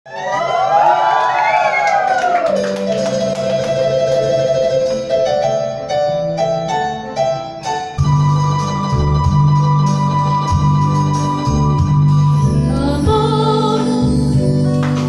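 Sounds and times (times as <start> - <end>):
live band playing instrumental: 2.4 - 15.0.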